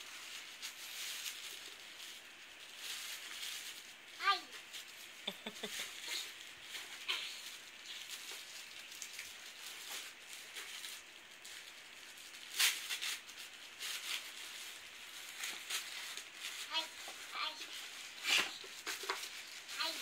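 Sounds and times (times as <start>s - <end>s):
tissue paper rustling and crinkling: 0.0s - 20.0s.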